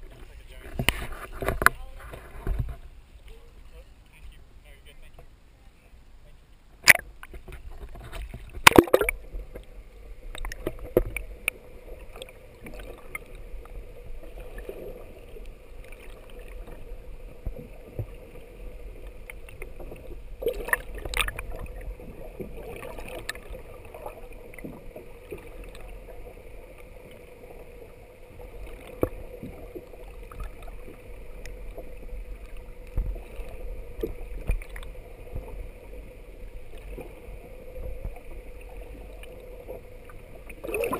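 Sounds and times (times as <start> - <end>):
faint steady hum: 0.0 - 40.9
underwater low rumble: 0.0 - 40.9.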